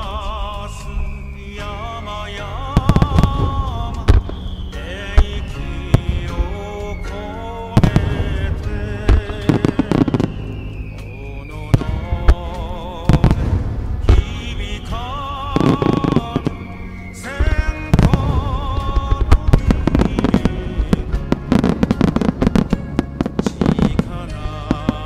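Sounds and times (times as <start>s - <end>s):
fireworks bursting with crackles: 0.0s - 25.0s
music with wavering melody: 0.0s - 25.0s.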